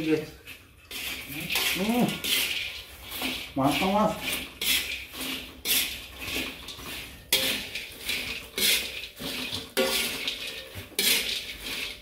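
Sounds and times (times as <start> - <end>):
metal spatula scraping a wok: 0.0 - 12.0.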